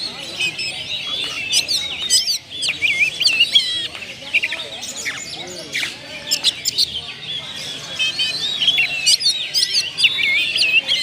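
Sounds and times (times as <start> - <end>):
bird singing whistles and chirps: 0.0 - 11.0.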